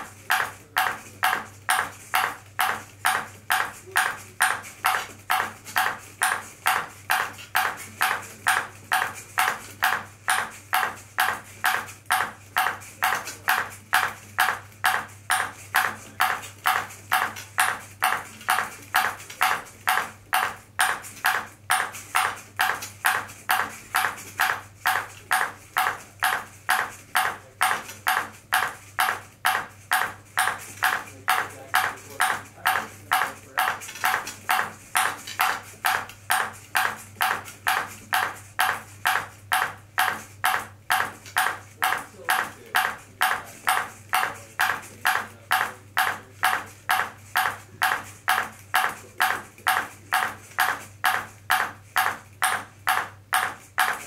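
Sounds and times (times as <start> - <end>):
ping pong ball bouncing on paddle: 0.0 - 54.0.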